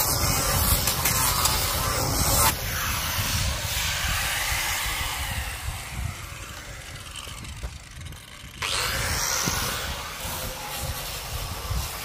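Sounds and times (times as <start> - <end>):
power tool grinding wood: 0.0 - 12.0
power tool whirring: 0.0 - 12.0.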